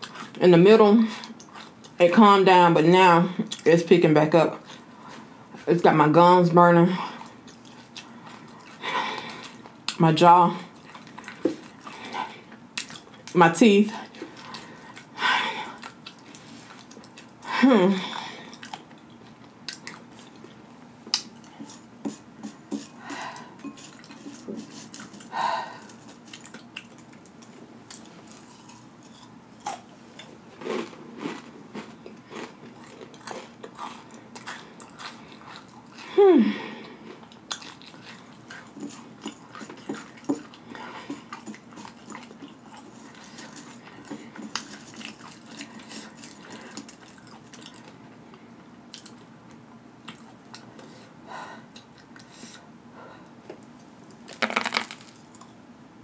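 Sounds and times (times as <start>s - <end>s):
chewing and crunching chips: 1.0s - 2.0s, 6.9s - 50.9s, 53.6s - 55.6s.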